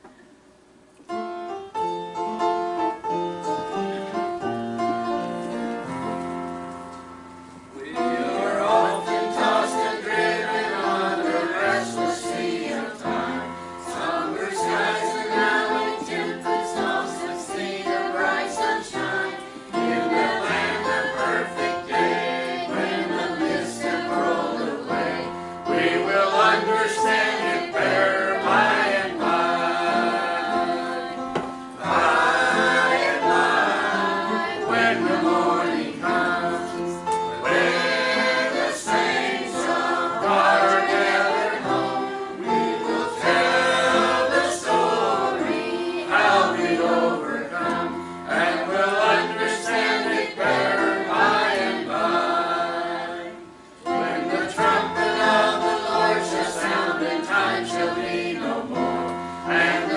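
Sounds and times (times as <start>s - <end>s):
choir singing gospel song: 7.7s - 59.9s.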